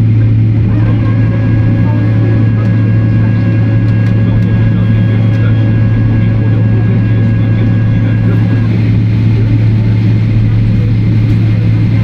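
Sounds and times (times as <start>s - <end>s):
aircraft cabin low drone: 0.0s - 12.0s.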